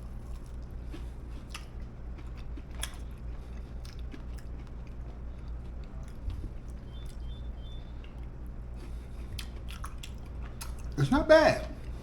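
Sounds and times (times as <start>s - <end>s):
person chewing crunchy food: 0.0s - 7.2s, 8.2s - 11.0s
steady low hum: 0.0s - 12.0s.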